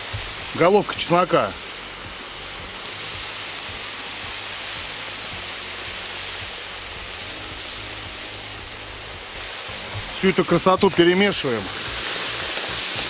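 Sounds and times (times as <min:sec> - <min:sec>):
meat and vegetables sizzling: 0:00.0 - 0:13.0.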